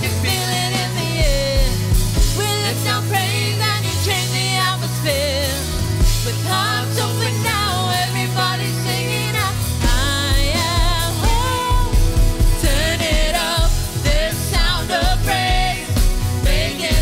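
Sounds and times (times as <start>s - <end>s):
band with bass and drums: 0.0s - 17.0s
person singing: 0.0s - 17.0s.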